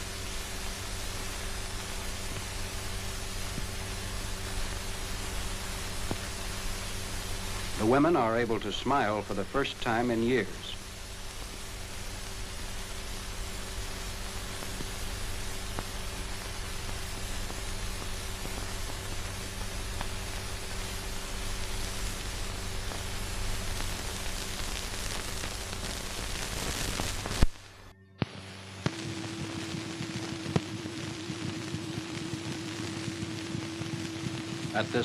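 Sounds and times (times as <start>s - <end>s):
faint crackles: 0.0s - 35.0s
film soundtrack hiss and hum: 0.0s - 35.0s.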